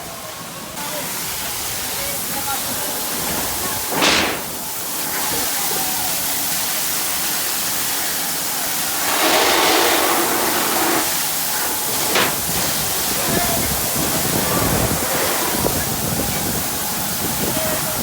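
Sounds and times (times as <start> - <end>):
water spraying from fire hose: 0.4 - 18.0.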